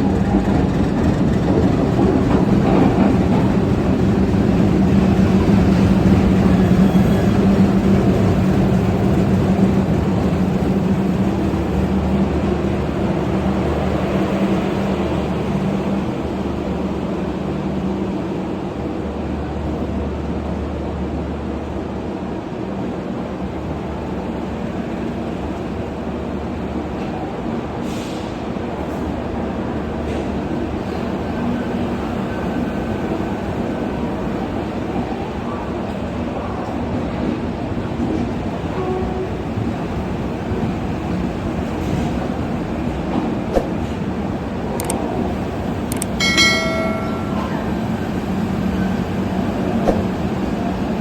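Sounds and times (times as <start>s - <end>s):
train wheels on track: 0.0s - 51.0s.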